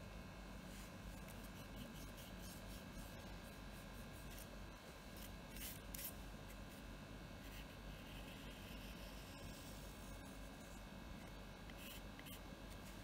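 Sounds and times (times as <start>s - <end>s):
pencil scratching on paper: 1.1s - 6.8s, 7.4s - 13.0s.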